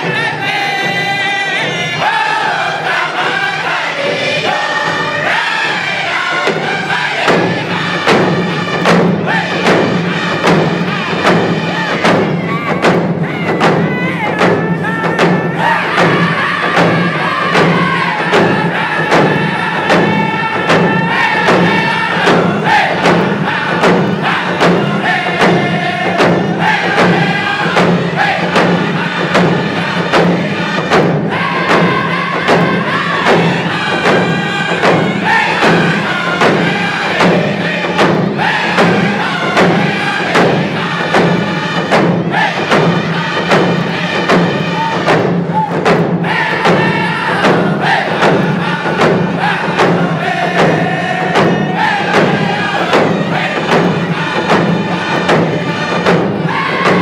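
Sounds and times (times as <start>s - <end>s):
frame drums beating: 0.0s - 57.0s
men singing in unison: 0.0s - 57.0s.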